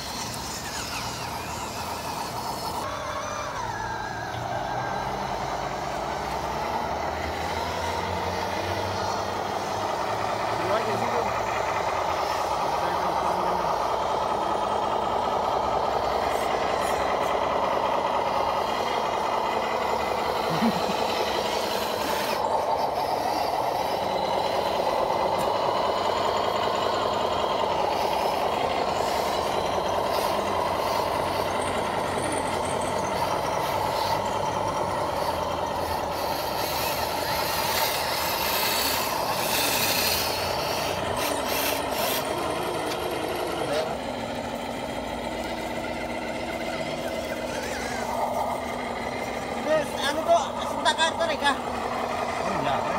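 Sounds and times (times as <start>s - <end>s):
electric motors whining: 0.0s - 52.9s.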